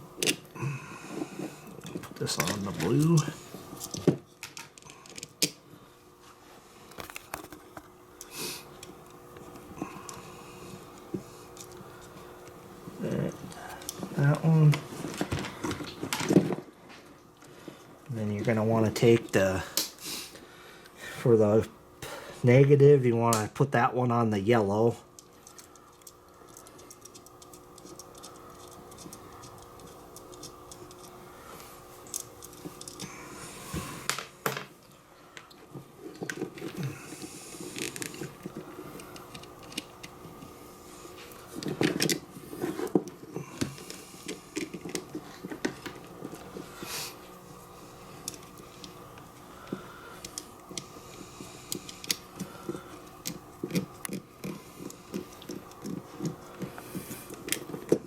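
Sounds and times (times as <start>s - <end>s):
steady faint hum: 0.0s - 58.0s.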